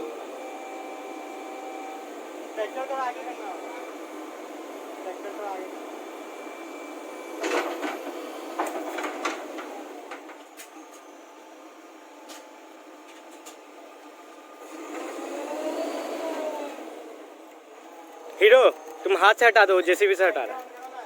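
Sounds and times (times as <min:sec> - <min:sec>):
heavy machinery engine running: 0:00.0 - 0:12.1, 0:14.1 - 0:20.8.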